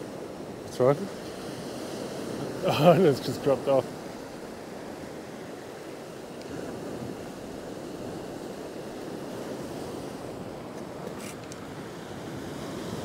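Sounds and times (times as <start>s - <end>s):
surf on rocky shore: 0.0s - 13.0s.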